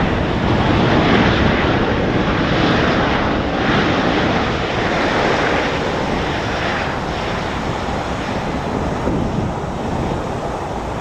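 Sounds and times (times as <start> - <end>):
jet engine roar: 0.0 - 11.0
wind on microphone: 0.0 - 11.0.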